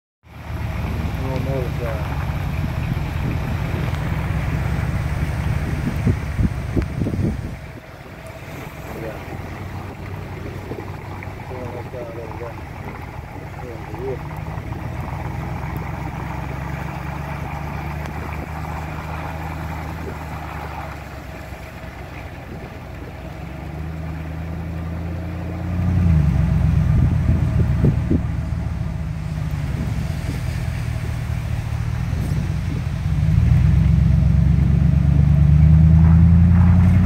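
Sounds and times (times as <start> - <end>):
car engine hum: 0.2 - 37.0
road noise: 0.2 - 37.0.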